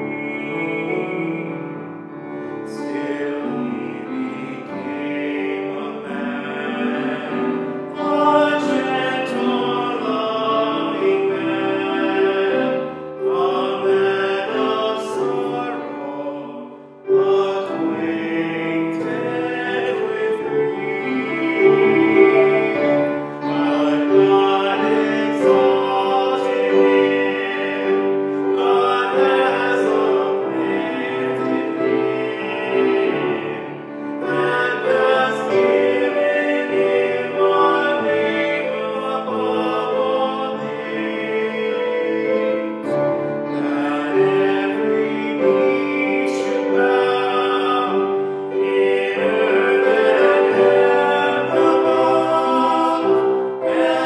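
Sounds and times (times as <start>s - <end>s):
man singing: 0.0s - 1.8s, 2.7s - 54.0s
grand piano accompaniment: 0.0s - 54.0s.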